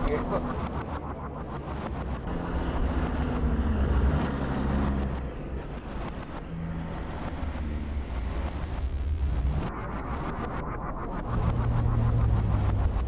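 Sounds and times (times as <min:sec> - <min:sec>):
traffic engine and road rumble: 0:00.0 - 0:10.4, 0:11.1 - 0:13.0.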